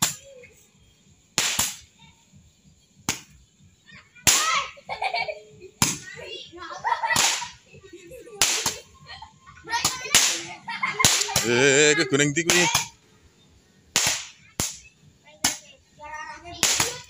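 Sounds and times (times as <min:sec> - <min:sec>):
fireworks cracking: 0:00.0 - 0:00.6, 0:01.2 - 0:02.1, 0:02.8 - 0:17.0.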